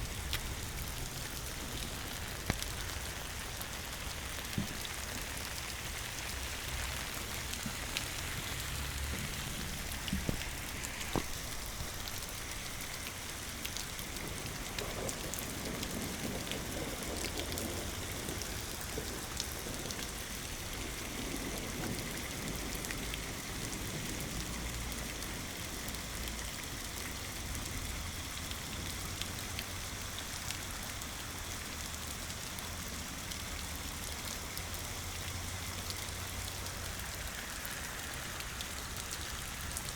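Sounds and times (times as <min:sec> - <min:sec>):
raindrops ticking: 0:00.0 - 0:39.9
steady rain falling: 0:00.0 - 0:39.9.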